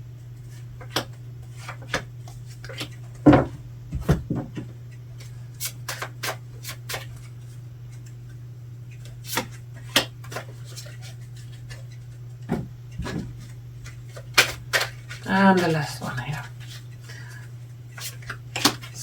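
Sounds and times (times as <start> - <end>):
cards shuffled and tapped: 0.4 - 19.0.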